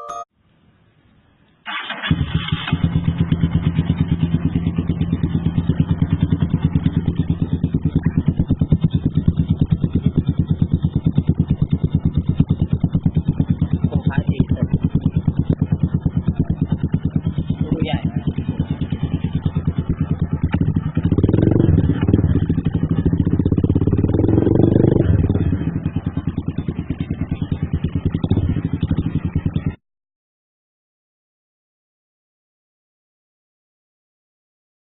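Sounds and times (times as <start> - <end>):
motorcycle engine starting and idling: 1.7 - 29.8.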